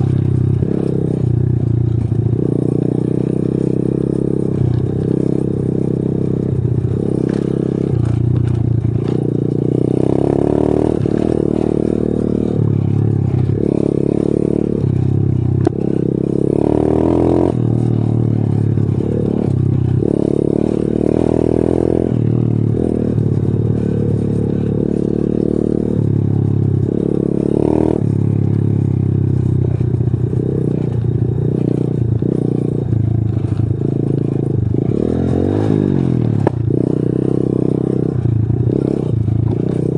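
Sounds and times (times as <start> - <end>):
bike rattling over bumps: 0.0 - 39.9
motorbike engine revving: 0.0 - 39.9.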